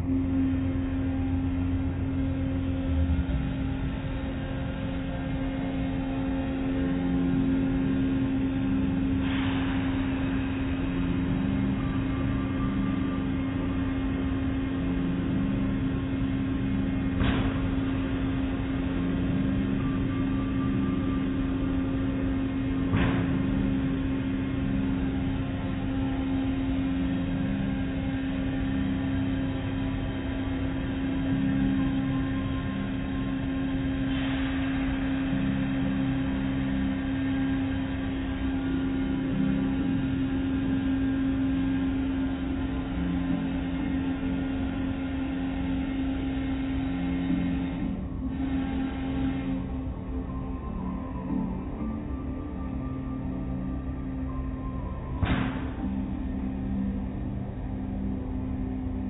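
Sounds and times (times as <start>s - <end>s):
car wash machine hum: 0.0s - 59.0s.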